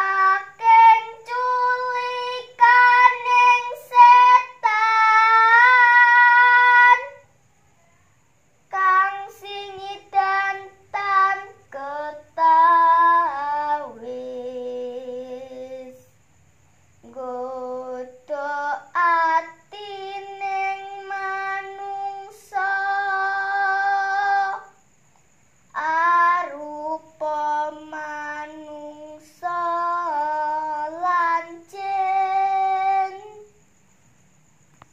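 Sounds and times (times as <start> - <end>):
young woman singing unaccompanied: 0.0 - 7.3, 8.6 - 16.2, 16.9 - 33.7.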